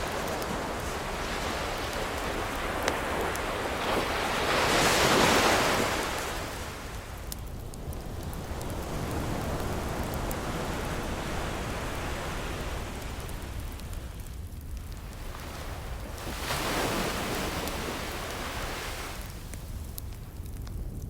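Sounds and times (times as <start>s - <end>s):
ocean waves breaking: 0.0s - 14.3s, 14.9s - 20.0s
faint wood fire crackles: 0.0s - 21.0s.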